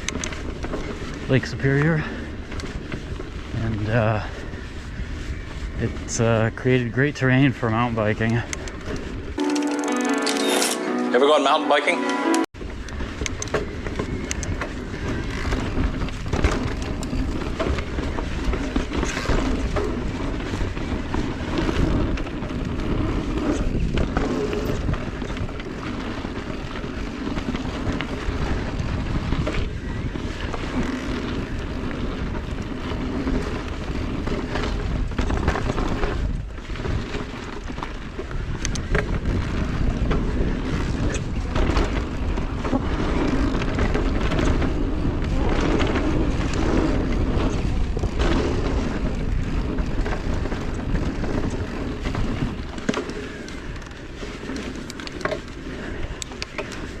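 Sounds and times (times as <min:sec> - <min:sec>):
wind buffeting microphone: 0:00.0 - 0:09.4, 0:12.6 - 0:57.0
bike tyre and trail noise: 0:00.0 - 0:09.5, 0:12.6 - 0:57.0.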